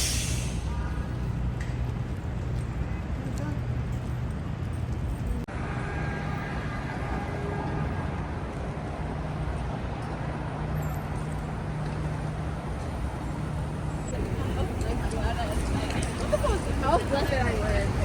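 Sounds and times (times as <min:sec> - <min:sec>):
street traffic din: 0:00.0 - 0:18.0.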